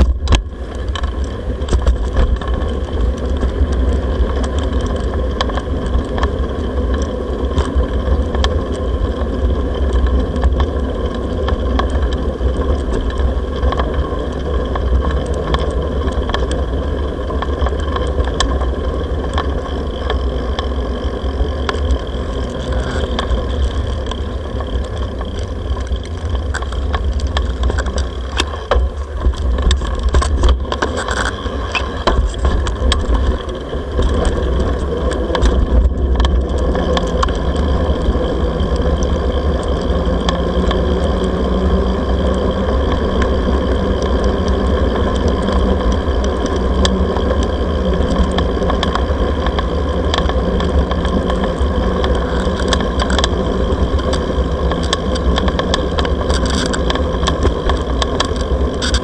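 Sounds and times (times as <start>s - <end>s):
tyres rolling over paving: 0.0s - 59.0s.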